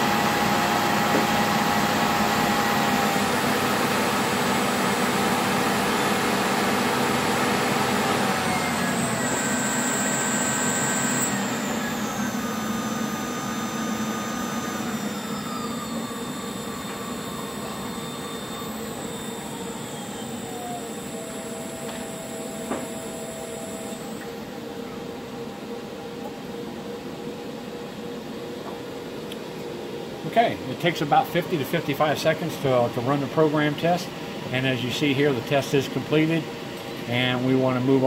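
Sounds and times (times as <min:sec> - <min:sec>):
alternator test bench whine: 0:00.0 - 0:38.0.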